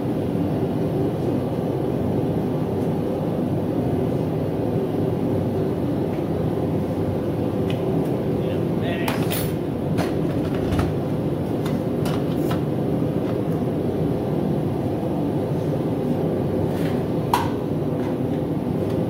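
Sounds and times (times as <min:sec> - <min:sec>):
forge burner roaring: 0:00.0 - 0:19.0.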